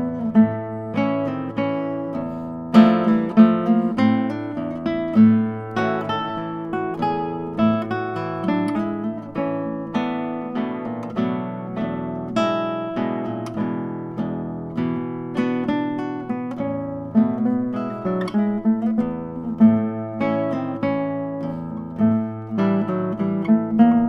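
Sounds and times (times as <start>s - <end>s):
classical guitar duet: 0.0s - 24.0s.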